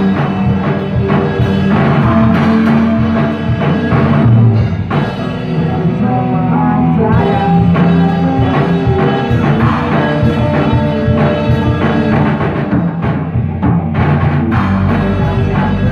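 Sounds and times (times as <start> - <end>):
amplified electric guitars: 0.0 - 15.9
drum kit steady beat: 0.0 - 15.9.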